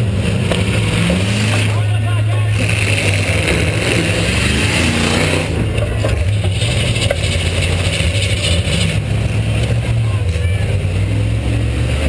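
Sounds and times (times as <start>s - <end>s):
car engine running loud: 0.0s - 12.0s.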